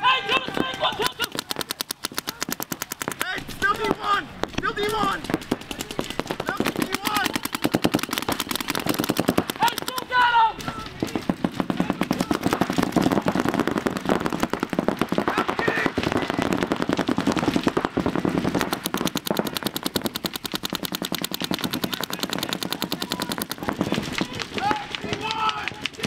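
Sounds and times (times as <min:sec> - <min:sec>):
paintball guns firing: 0:00.0 - 0:26.0.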